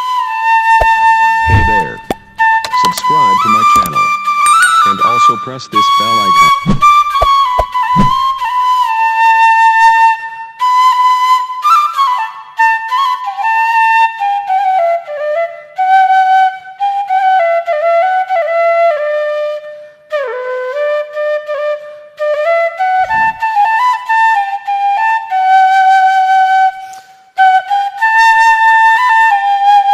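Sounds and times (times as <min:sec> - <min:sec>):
solo flute melody: 0:00.0 - 0:29.9.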